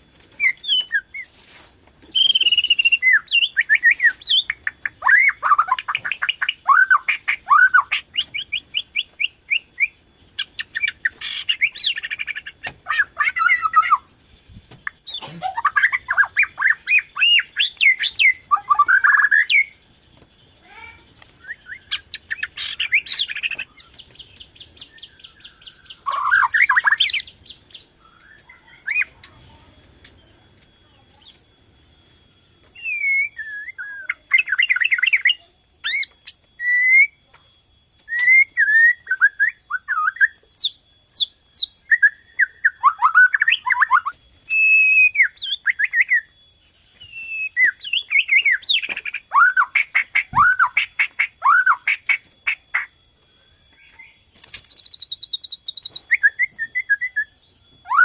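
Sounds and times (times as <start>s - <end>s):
bird singing whistles and trills: 0.3s - 1.3s, 2.0s - 14.1s, 14.8s - 31.4s, 32.4s - 37.2s, 38.0s - 58.0s.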